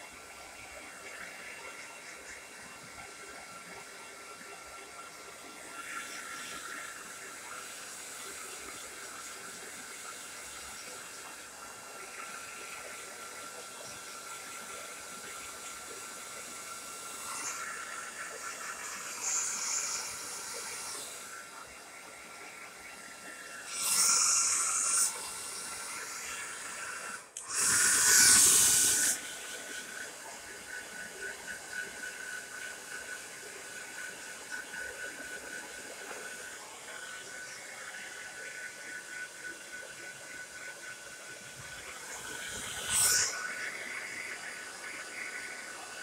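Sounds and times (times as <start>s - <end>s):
hair dryer running: 0.0s - 46.0s.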